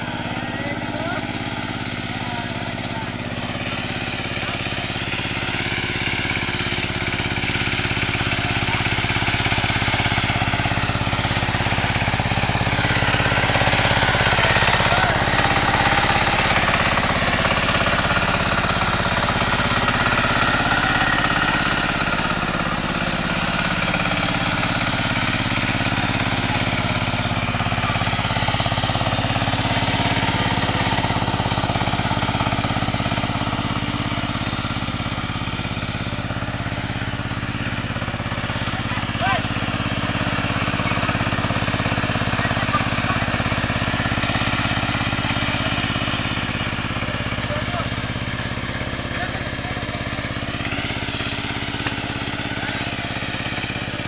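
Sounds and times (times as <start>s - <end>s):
tiller diesel engine running: 0.0s - 54.0s.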